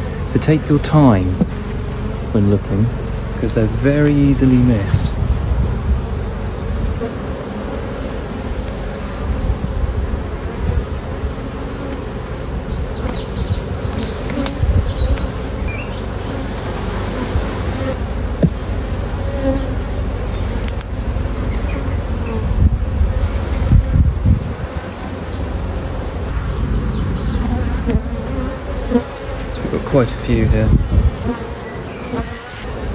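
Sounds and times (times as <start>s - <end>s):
honeybees buzzing: 0.0s - 32.9s.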